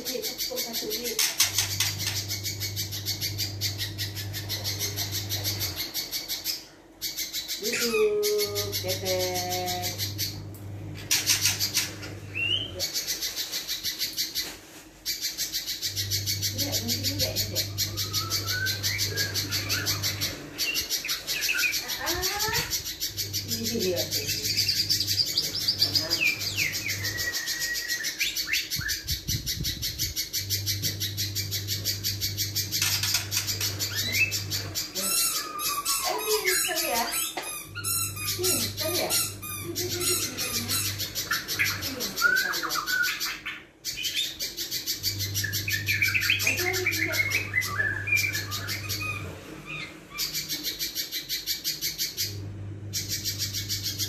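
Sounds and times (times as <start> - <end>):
bird calling harsh notes and chirps: 0.1 - 54.0.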